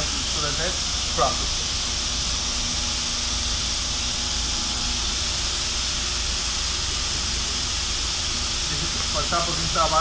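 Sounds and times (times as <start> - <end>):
steady loud hiss: 0.0 - 10.0.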